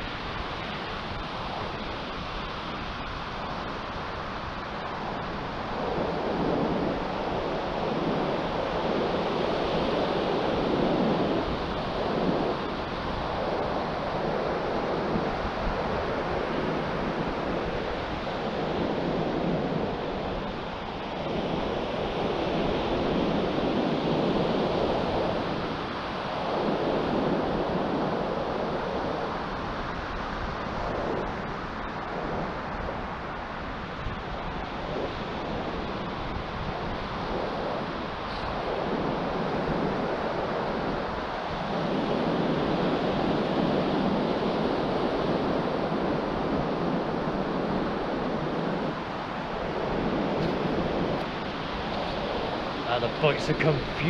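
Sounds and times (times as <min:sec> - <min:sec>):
surf washing on beach: 0:00.0 - 0:54.0
wind blowing across microphone: 0:00.0 - 0:54.0.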